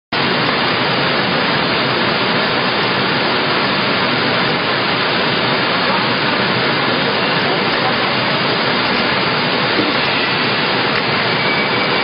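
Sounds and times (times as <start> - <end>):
envelope machine running: 0.3 - 12.0.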